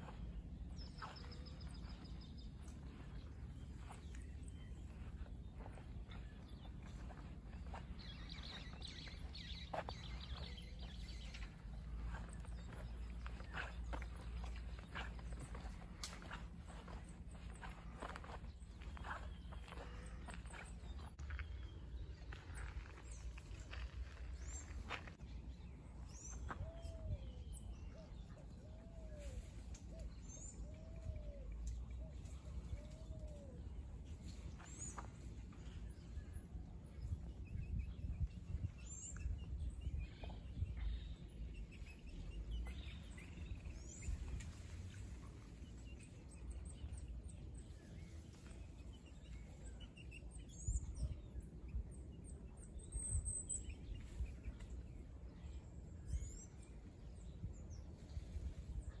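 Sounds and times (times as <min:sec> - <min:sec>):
low arched bird notes: 0:00.0 - 0:59.0.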